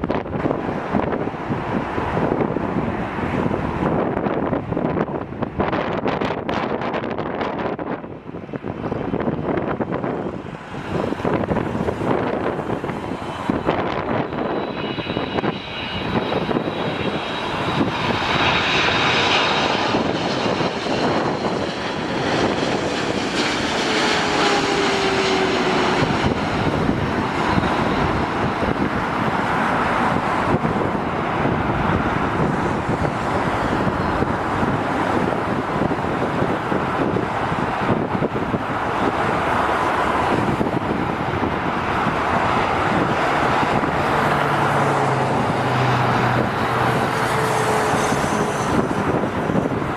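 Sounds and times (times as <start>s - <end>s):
jet airliner engines roaring: 0.0s - 49.9s.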